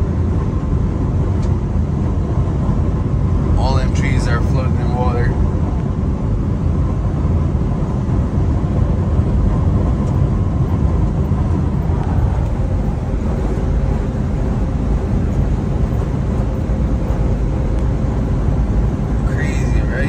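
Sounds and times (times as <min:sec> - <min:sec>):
truck engine drone: 0:00.0 - 0:20.0.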